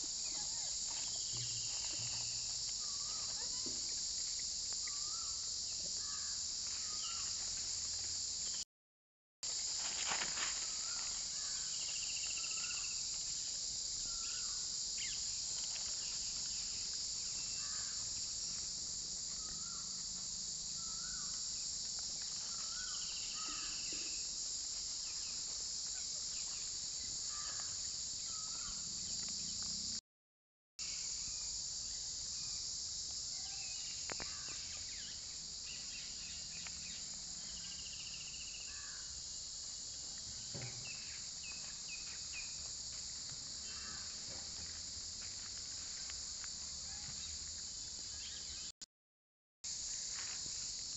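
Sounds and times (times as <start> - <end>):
insects shrilling: 0.0 - 8.6, 9.5 - 30.0, 30.8 - 48.7.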